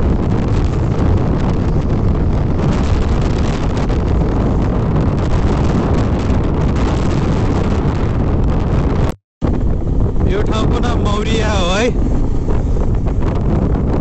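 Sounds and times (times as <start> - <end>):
vehicle on rough dirt road: 0.0 - 14.0
wind rushing over microphone: 0.0 - 14.0.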